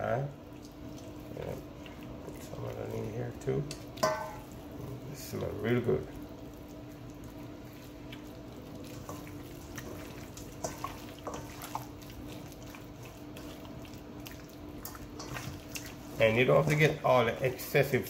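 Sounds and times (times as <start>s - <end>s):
wet squelches of raw chicken: 0.4s - 17.0s.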